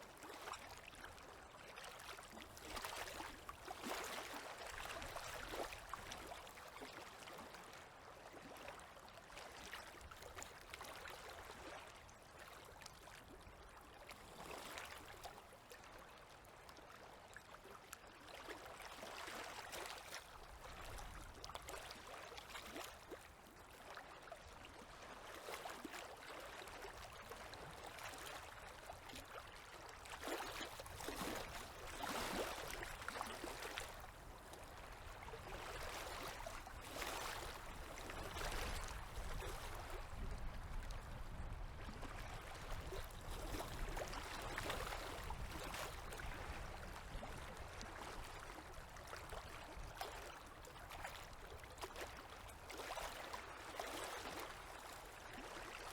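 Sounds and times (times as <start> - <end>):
river waves lapping at shore: 0.1 - 17.5, 18.2 - 55.9.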